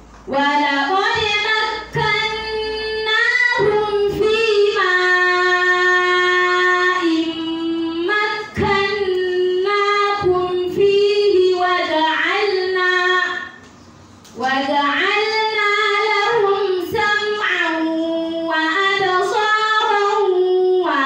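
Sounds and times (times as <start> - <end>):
woman chanting recitation: 0.3 - 13.6, 14.4 - 21.0.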